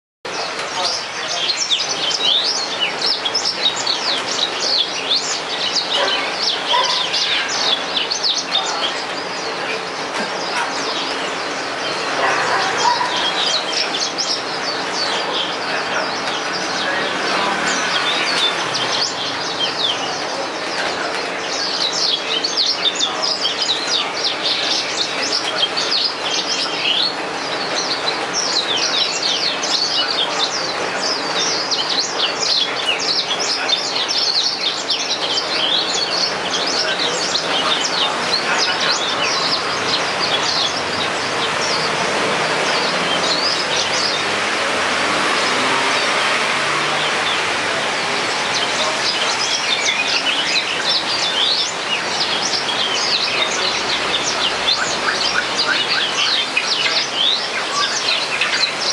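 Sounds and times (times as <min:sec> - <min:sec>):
canary twittering song: 0:00.3 - 0:58.9.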